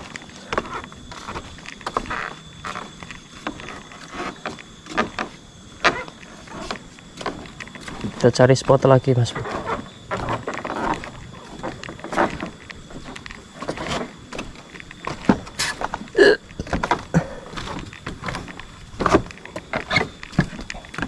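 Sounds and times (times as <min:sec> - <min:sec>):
footsteps on bamboo poles: 0:00.0 - 0:21.0.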